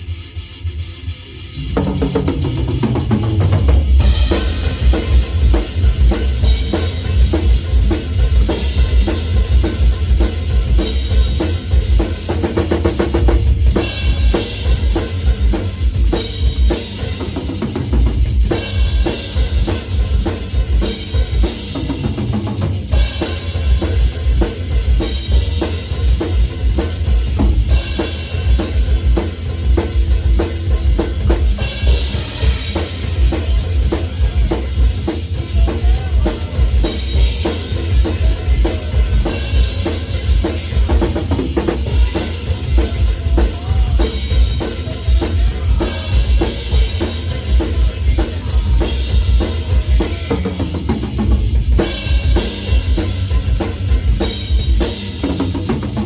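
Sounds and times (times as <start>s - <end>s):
distorted guitar: 0.0s - 56.0s
drum kit played fast: 0.0s - 56.0s.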